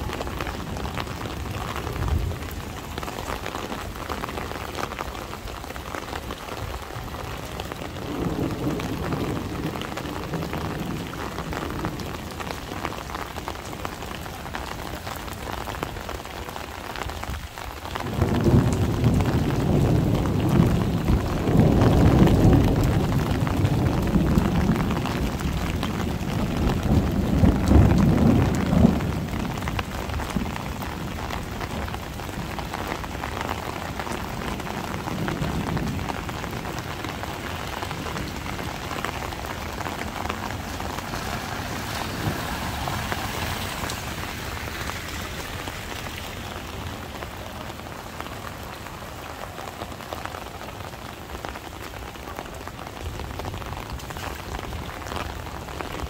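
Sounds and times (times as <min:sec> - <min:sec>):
thunder rumbling: 0:00.0 - 0:14.9, 0:17.4 - 0:56.0
heavy rain pouring: 0:00.0 - 0:56.0.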